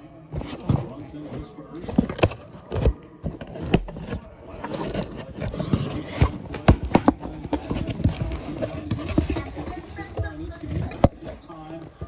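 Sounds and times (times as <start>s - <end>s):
cardboard box rubbing and scraping: 0.3s - 12.0s.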